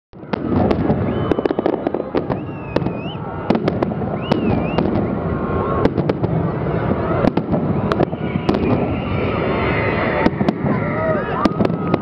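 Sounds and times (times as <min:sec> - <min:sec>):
firework whistles: 0:00.2 - 0:12.0
fireworks bangs and crackling: 0:00.2 - 0:12.0.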